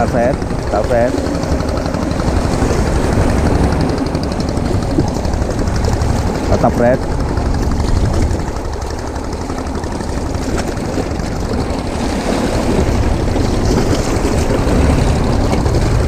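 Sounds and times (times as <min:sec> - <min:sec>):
waves washing against rocks: 0:00.0 - 0:16.0
wind buffeting microphone: 0:00.0 - 0:16.0.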